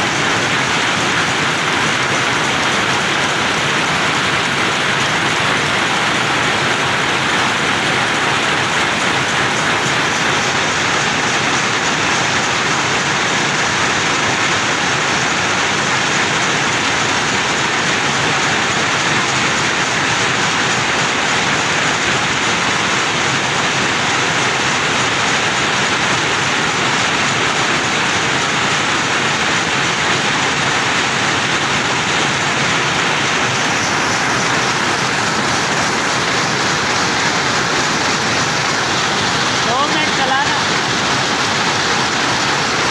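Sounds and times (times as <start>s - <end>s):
power looms clattering: 0.0s - 42.9s.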